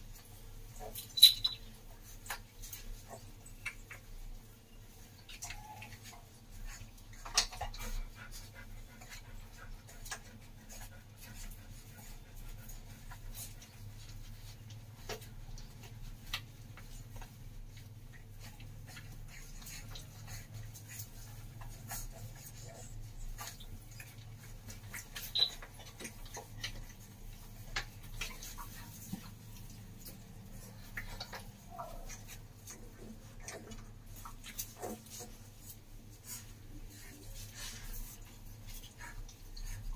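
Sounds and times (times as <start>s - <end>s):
puppies suckling clicks and smacks: 0.0s - 39.9s.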